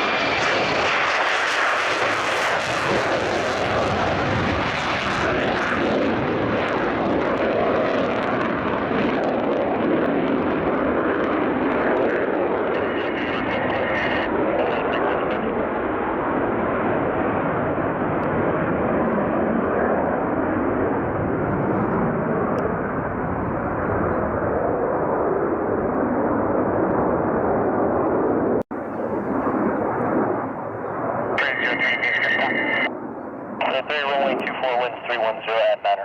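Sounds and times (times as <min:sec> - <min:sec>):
fighter jet engine roar: 0:00.0 - 0:36.0.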